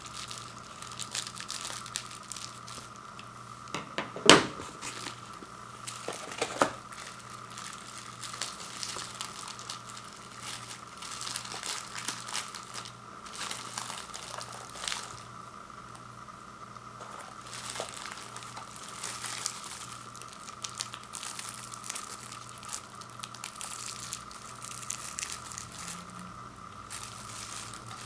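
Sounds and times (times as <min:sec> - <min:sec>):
packaging snapping: 0:00.0 - 0:02.9, 0:04.6 - 0:15.3, 0:17.0 - 0:26.1
plastic and cardboard crinkling: 0:00.0 - 0:16.0, 0:17.0 - 0:26.2, 0:26.8 - 0:28.0
faint steady hum: 0:00.0 - 0:28.0.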